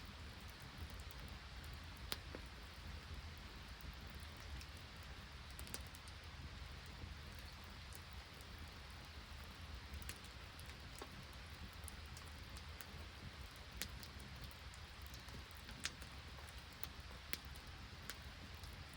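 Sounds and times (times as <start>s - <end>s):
rain and snow falling: 0.0s - 18.9s.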